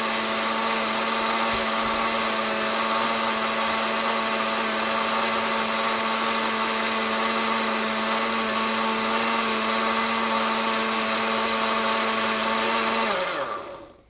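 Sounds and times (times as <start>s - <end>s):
blender motor humming: 0.0s - 14.0s.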